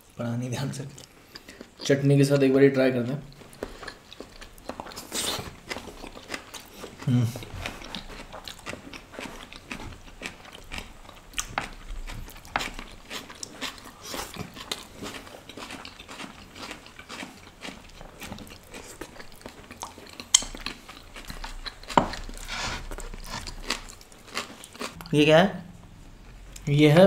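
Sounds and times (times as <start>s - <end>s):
people chewing: 0.9s - 2.0s, 3.1s - 25.2s.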